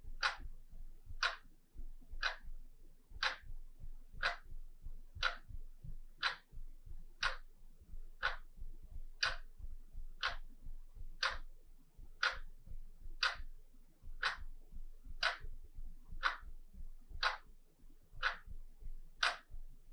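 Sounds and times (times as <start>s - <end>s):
wall clock ticking: 0.0s - 19.9s.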